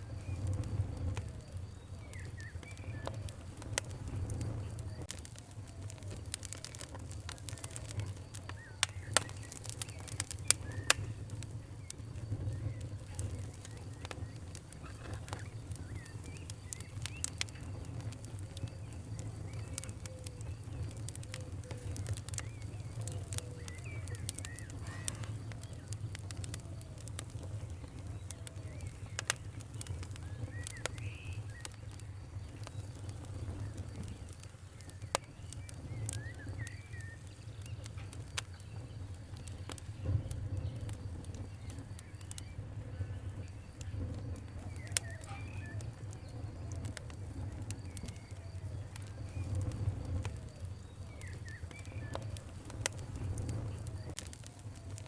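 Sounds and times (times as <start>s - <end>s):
small birds chirping faintly: 0.0s - 55.0s
wood fire crackling: 0.0s - 55.0s.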